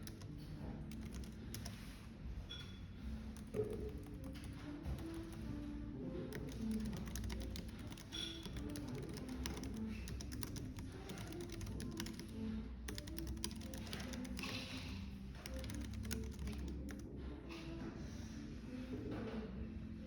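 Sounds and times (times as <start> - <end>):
rapid keyboard typing: 0.0 - 17.4
soft background music: 0.0 - 20.0.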